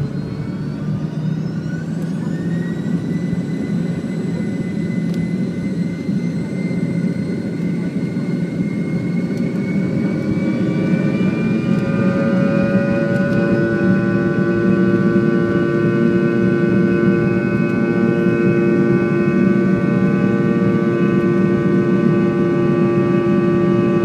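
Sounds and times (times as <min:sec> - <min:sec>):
heavy rumble of takeoff roll: 0:00.0 - 0:24.0
jet engines whining: 0:00.0 - 0:24.0.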